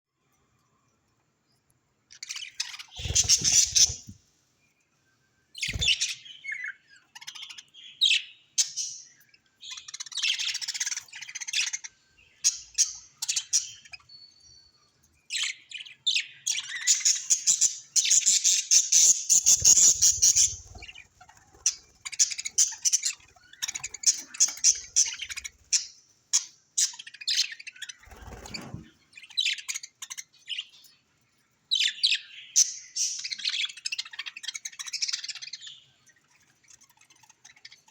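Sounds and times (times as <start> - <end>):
budgerigars chirping and chattering: 2.2 - 4.2, 5.6 - 14.3, 15.3 - 31.0, 31.7 - 37.9.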